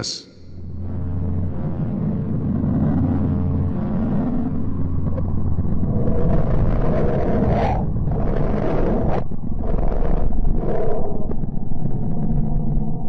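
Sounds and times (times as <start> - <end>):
deep steady rumble: 0.0 - 13.0.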